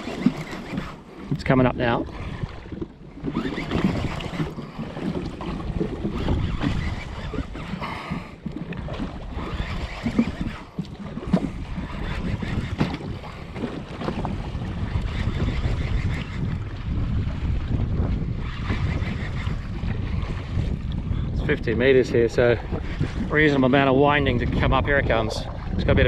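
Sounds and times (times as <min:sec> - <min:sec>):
waves slapping against hull: 0:00.0 - 0:26.0
wind buffeting microphone: 0:00.0 - 0:26.0.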